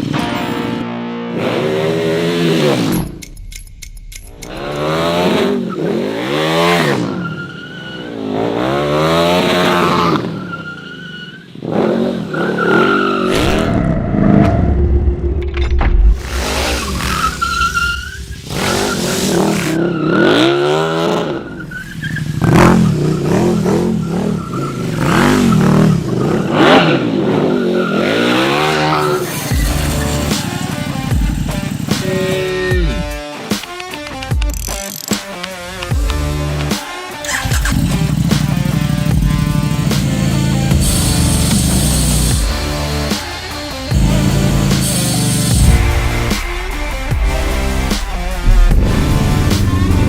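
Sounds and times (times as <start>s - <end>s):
motorcycle engine revving: 0.0s - 7.2s, 8.0s - 10.4s, 16.1s - 33.4s, 34.4s - 50.0s
tire squealing: 4.2s - 33.1s, 35.6s - 50.0s.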